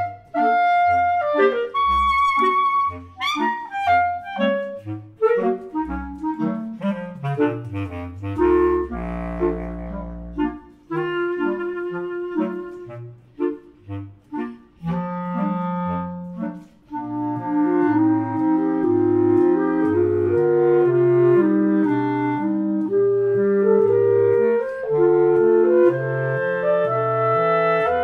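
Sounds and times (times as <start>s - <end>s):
clarinet quartet playing: 0.0s - 28.0s.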